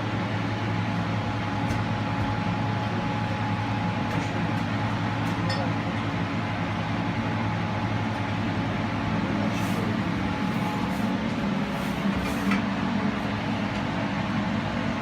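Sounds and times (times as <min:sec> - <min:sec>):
drilling rig engine drone: 0:00.0 - 0:15.0.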